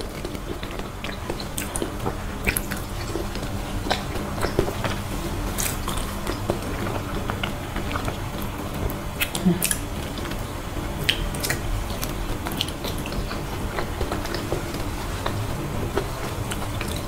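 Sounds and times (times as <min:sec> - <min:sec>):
person chewing soft food: 0:00.0 - 0:17.0.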